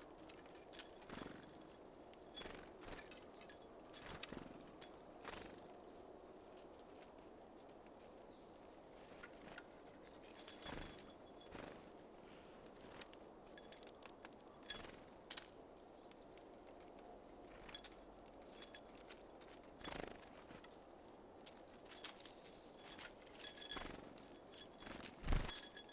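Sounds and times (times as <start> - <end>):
birds tapping at a feeder: 0.1 - 6.0, 9.0 - 20.8, 21.6 - 25.9.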